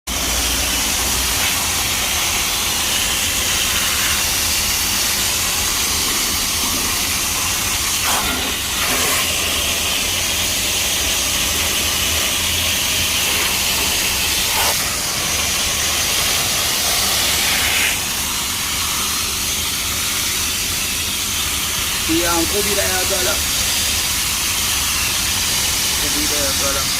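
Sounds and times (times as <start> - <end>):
spray jet hissing: 0.1 - 26.9.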